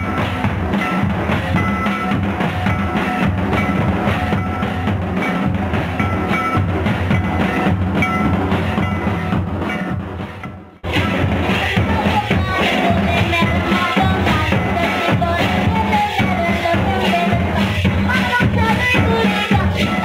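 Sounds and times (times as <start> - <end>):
barrel drum: 0.0 - 20.0
kettledrums playing fast rhythm: 0.0 - 20.0.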